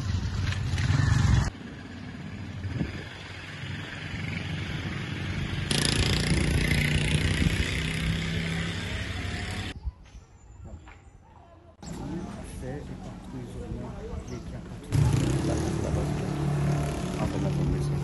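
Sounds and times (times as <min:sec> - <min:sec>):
outdoor noise: 0:00.0 - 0:18.0.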